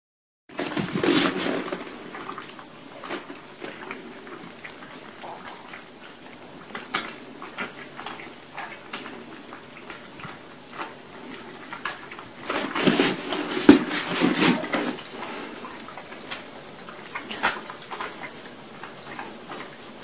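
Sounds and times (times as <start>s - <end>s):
kittens lapping milk: 0.6s - 20.0s.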